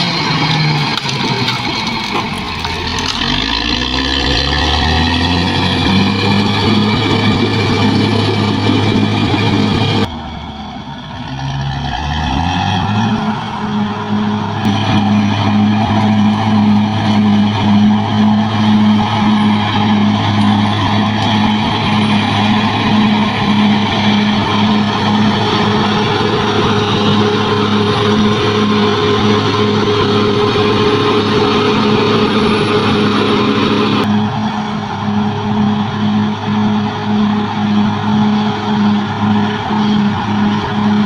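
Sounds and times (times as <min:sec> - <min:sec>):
bulldozer diesel engine throbbing: 0:00.0 - 0:41.0.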